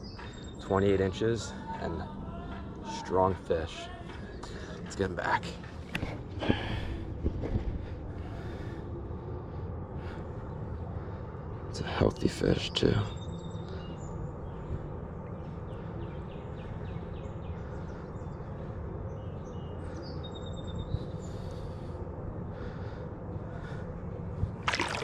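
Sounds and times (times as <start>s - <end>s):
small birds chirping: 0.0s - 7.0s, 8.2s - 24.6s
low rushing background: 0.0s - 25.0s.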